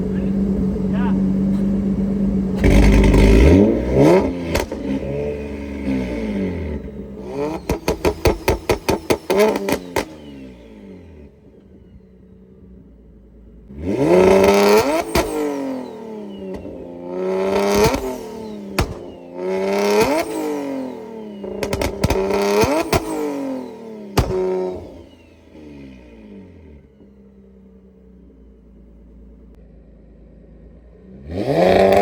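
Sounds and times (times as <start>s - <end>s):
exhaust cracks: 0.0s - 29.7s
car engine revving: 0.0s - 32.0s.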